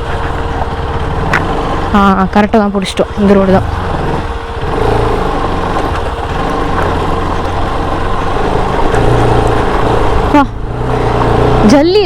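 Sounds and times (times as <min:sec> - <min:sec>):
motorcycle engine running: 0:00.0 - 0:12.0
tyres on stony dirt track: 0:00.0 - 0:12.0.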